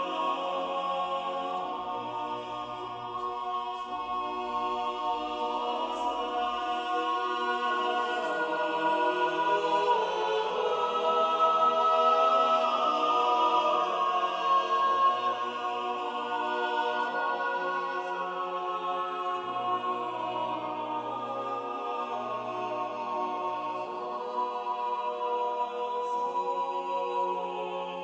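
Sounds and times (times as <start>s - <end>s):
unaccompanied choir singing: 0.0s - 28.0s.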